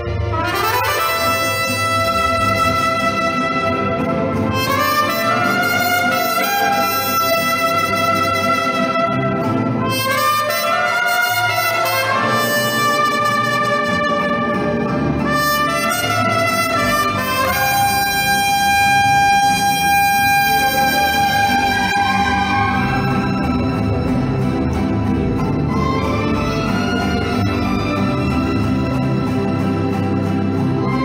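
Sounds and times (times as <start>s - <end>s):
mariachi band playing: 0.0s - 31.0s
trumpets: 0.0s - 31.0s.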